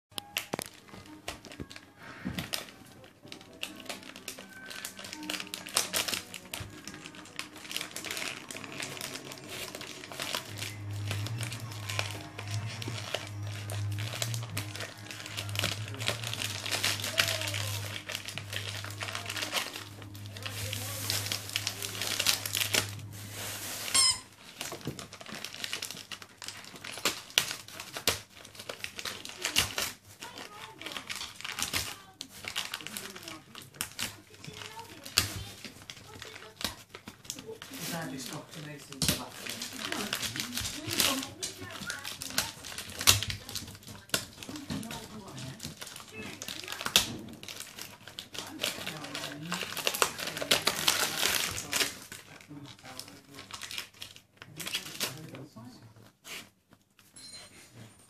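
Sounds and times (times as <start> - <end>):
foil crinkling: 0.1 - 57.1
faint music: 0.1 - 58.0
dog chewing foil wrap: 0.2 - 57.2.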